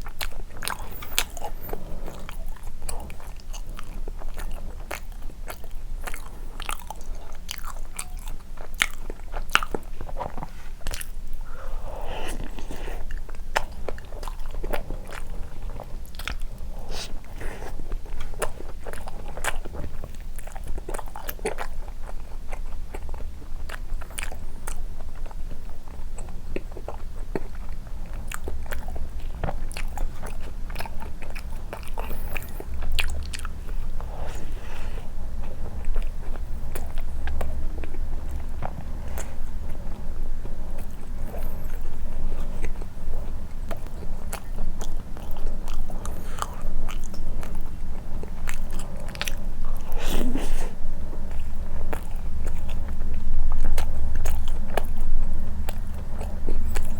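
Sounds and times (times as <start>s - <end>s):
biting and chewing bread: 0.0s - 56.9s.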